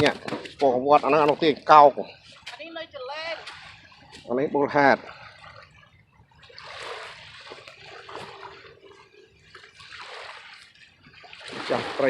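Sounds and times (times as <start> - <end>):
small waves washing on shore: 0.0 - 12.0.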